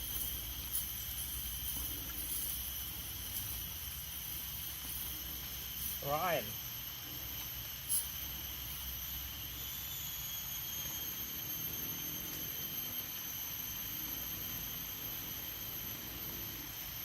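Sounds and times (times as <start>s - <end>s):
cicadas droning: 0.0s - 17.0s
rain hiss: 0.0s - 17.0s.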